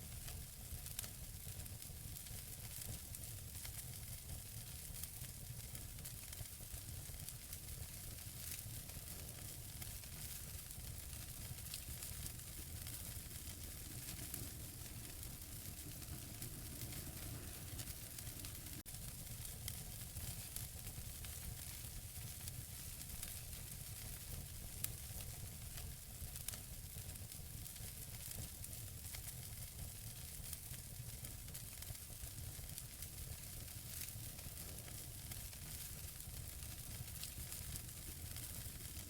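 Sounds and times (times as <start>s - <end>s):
faint fire hiss: 0.0s - 39.0s
wood fire crackling and popping: 0.0s - 39.0s.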